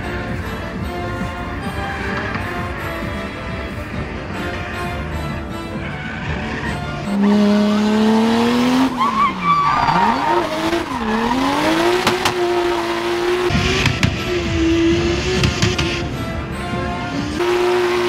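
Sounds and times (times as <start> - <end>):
car engine revving: 0.0 - 18.0
tyres squealing: 0.0 - 18.0.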